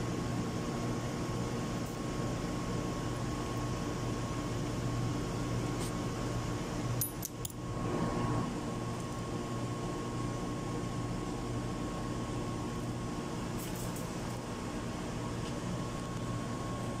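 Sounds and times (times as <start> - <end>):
machinery hum with high whine: 0.0 - 17.0.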